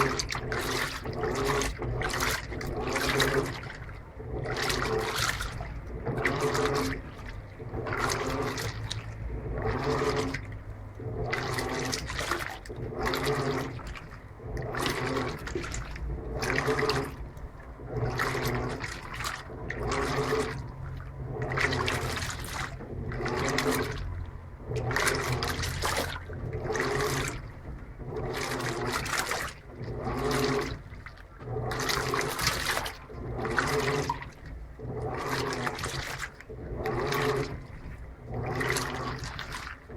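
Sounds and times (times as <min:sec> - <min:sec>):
low motor hum: 0:00.0 - 0:39.9
washing machine sloshing water: 0:00.0 - 0:39.9.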